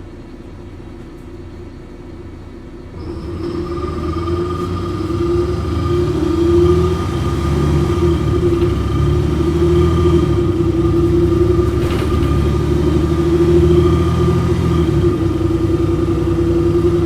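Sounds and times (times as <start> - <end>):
bus engine rumble and whine: 0.0 - 17.0.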